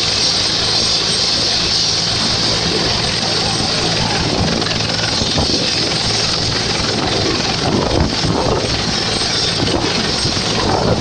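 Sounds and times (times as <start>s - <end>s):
helicopter rotor beat: 0.0s - 11.0s
helicopter turbine whine: 0.0s - 11.0s.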